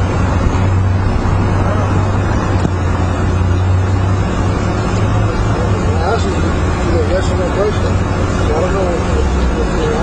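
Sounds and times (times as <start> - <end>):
constant rushing noise: 0.0 - 10.0.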